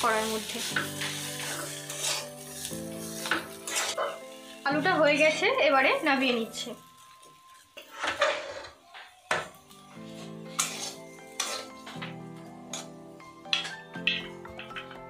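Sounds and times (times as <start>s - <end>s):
background music: 0.0s - 15.0s
metal utensil scraping a pan: 0.0s - 15.0s.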